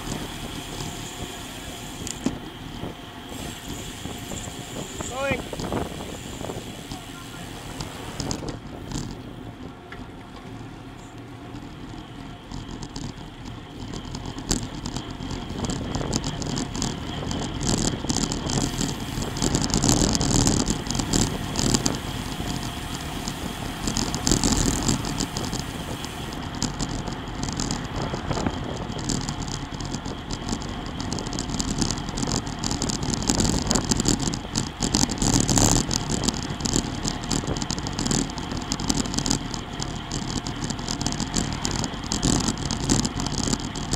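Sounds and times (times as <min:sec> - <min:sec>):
wind on microphone: 0:00.0 - 0:09.7, 0:13.8 - 0:43.9
bicycle freewheel ticking: 0:00.0 - 0:43.9
bike tyre and road noise: 0:00.0 - 0:43.9.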